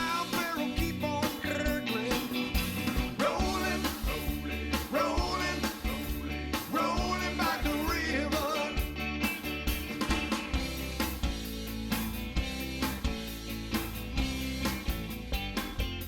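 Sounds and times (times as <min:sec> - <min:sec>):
upbeat rock song with singing: 0:00.0 - 0:16.0.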